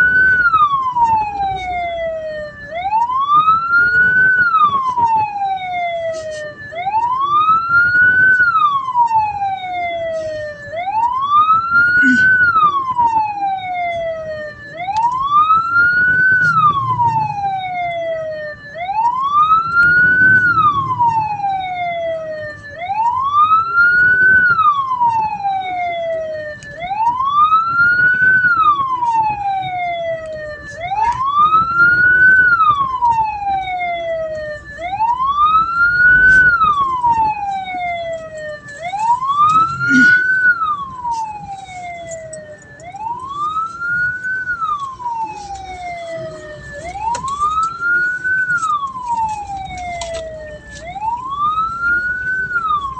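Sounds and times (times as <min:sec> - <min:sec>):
electronic siren wailing: 0:00.0 - 0:52.9.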